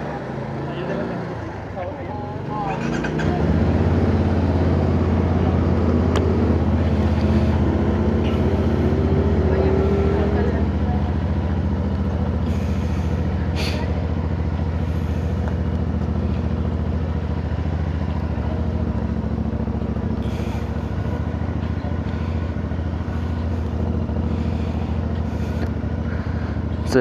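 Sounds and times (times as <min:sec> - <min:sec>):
motorcycle engine running steadily: 0:00.0 - 0:27.0.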